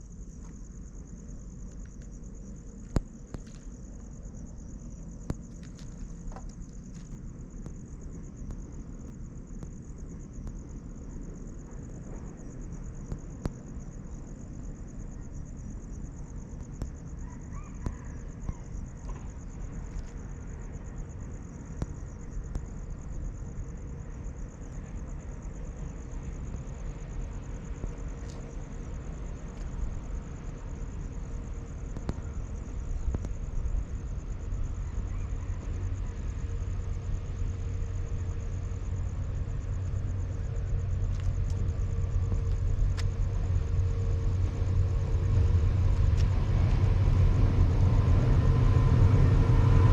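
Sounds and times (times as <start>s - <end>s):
insects trilling: 0.0s - 49.9s
low outdoor rumble: 0.0s - 49.9s.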